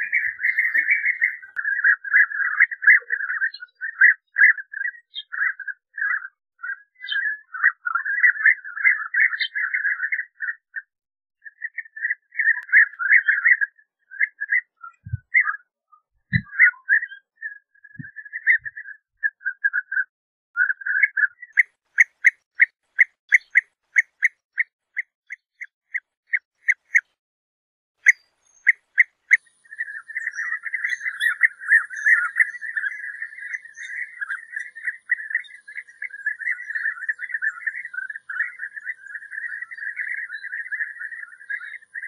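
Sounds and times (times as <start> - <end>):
birds calling with rolling trills: 0.0 - 20.0, 20.6 - 27.1, 28.0 - 42.0.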